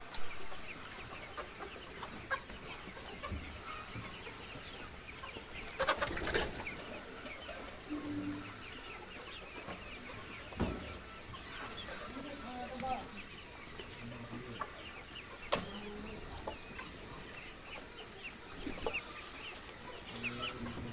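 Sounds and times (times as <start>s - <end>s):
flock of chickens clucking: 0.0s - 20.9s.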